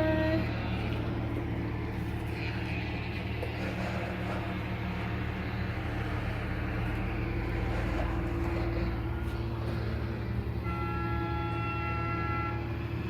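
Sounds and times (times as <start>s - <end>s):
construction machinery engines humming: 0.0s - 13.0s.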